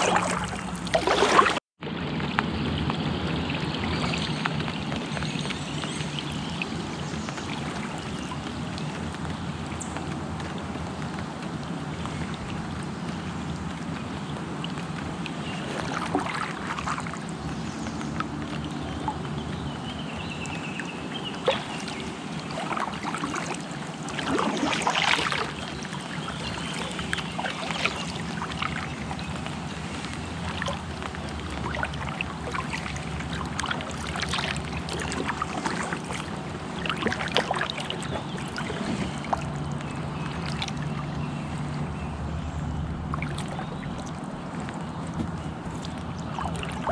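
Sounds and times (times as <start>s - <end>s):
moving water: 0.0s - 46.9s
paddle strokes splashing and dripping: 0.0s - 46.9s.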